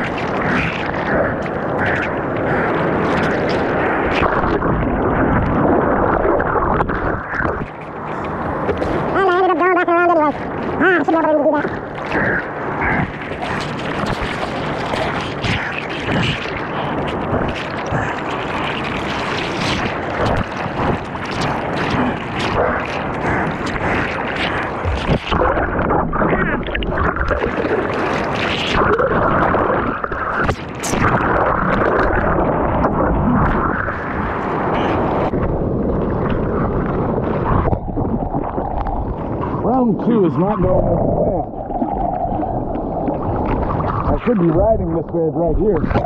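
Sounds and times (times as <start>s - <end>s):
surf churning and splashing: 0.0s - 46.0s.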